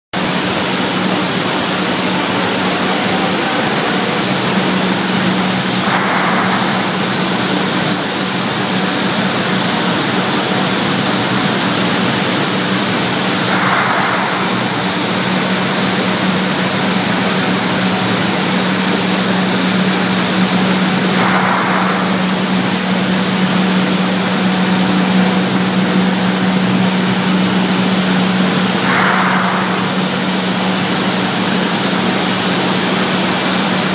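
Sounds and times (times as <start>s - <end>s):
burst of higher noise: 0.2s - 32.6s
plant machinery running: 0.2s - 33.9s.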